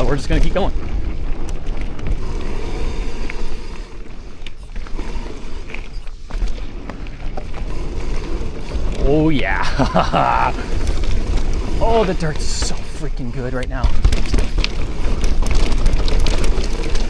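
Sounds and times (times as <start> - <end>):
bike chain and frame clatter: 0.0 - 17.0
tyres humming on dirt: 0.0 - 17.0.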